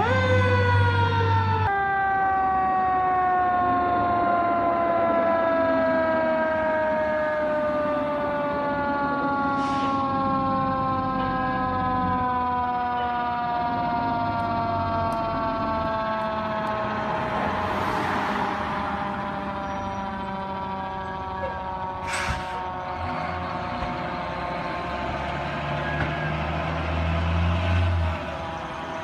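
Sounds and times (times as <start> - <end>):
fire truck siren winding down: 0.0 - 29.0.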